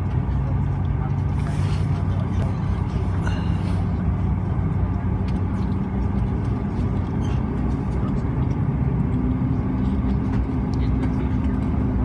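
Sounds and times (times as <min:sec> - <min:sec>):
turboprop engine droning: 0:00.0 - 0:12.0.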